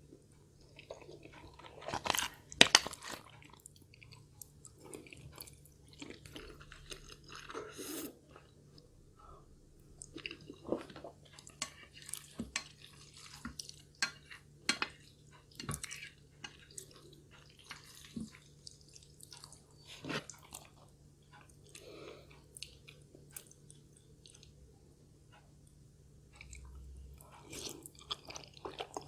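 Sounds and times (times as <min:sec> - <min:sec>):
wet chewing and mouth sounds: 0:00.1 - 0:24.6, 0:26.3 - 0:29.0.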